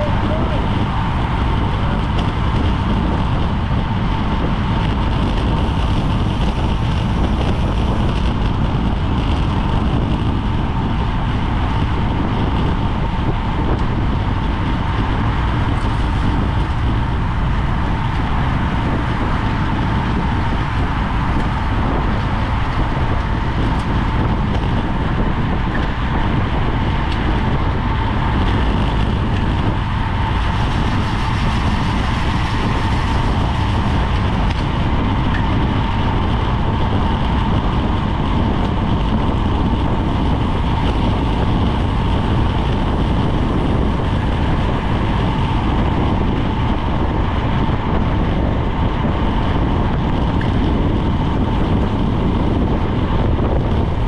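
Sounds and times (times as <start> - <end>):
road noise: 0.0 - 54.0
wind rushing: 0.0 - 54.0.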